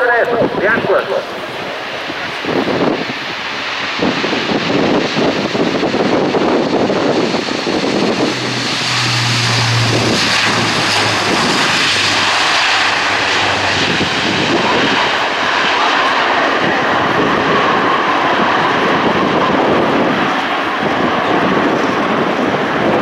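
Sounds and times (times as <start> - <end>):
low propeller hum: 0.0 - 23.0
turboprop engines droning: 0.0 - 23.0.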